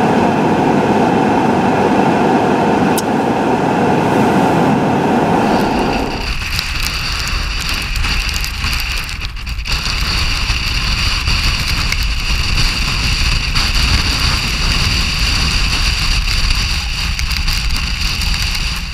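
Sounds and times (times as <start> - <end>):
hiss of wind-driven snow: 0.0 - 18.9
storm wind on microphone: 0.0 - 18.9.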